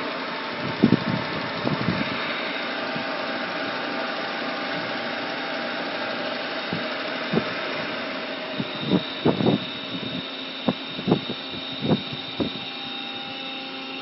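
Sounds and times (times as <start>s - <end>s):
grinder machine humming: 0.0s - 14.0s.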